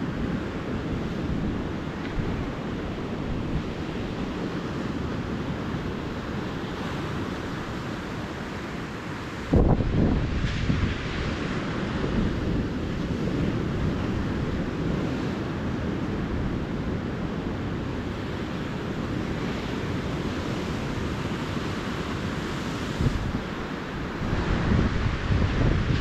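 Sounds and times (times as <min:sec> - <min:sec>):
ocean waves breaking on beach: 0:00.0 - 0:26.0
wind buffeting microphone: 0:00.0 - 0:26.0.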